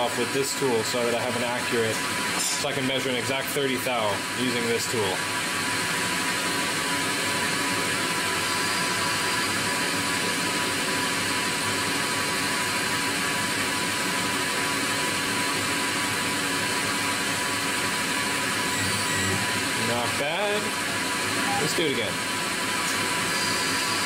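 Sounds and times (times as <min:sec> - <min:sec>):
lathe spindle whirring: 0:00.0 - 0:24.0.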